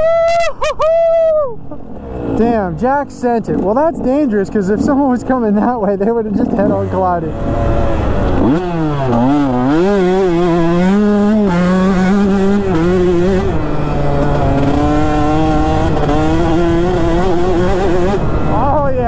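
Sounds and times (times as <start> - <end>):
dirt bike engine: 0.0 - 19.0.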